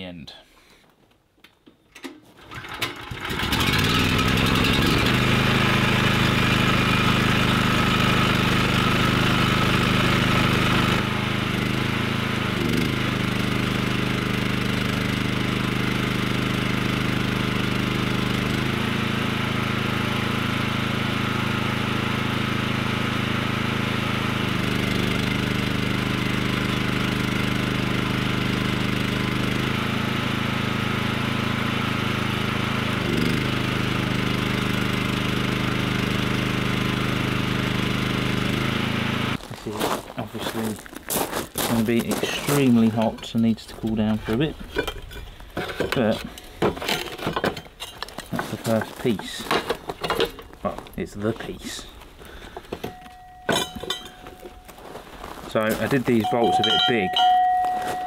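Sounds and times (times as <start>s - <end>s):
small generator engine running: 2.4s - 39.4s, 41.5s - 58.0s.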